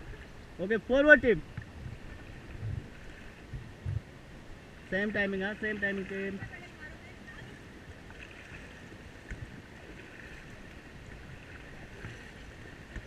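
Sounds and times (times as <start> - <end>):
paddles knocking raft: 0.0 - 13.0
river water splashing: 0.0 - 13.0.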